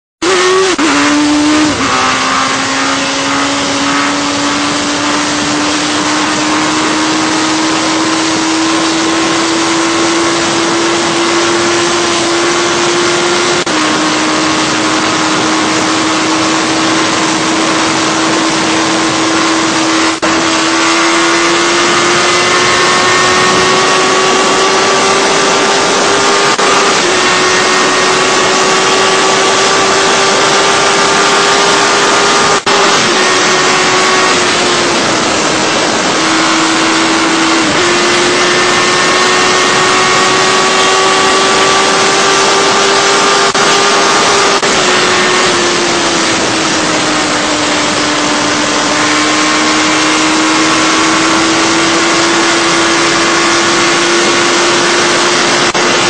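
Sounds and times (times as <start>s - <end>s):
motorcycle engine at high speed: 0.0s - 56.0s
wind rushing: 0.2s - 56.0s.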